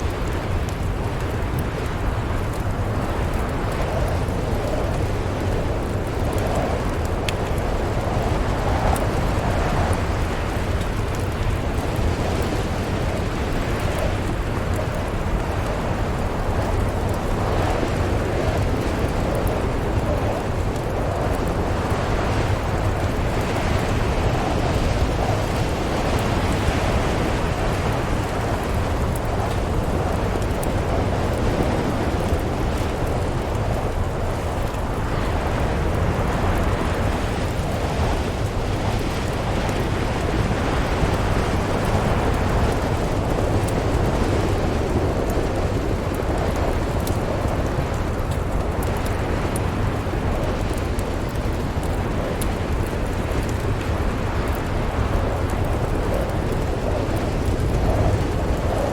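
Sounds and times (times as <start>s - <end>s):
snowstorm wind rumbling: 0.0s - 58.9s
wood fire crackling: 0.0s - 58.9s.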